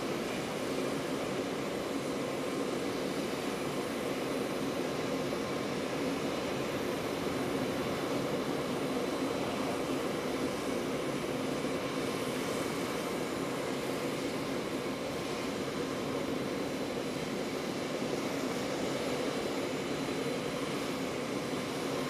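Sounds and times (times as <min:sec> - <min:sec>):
steady engine drone: 0:00.0 - 0:22.0.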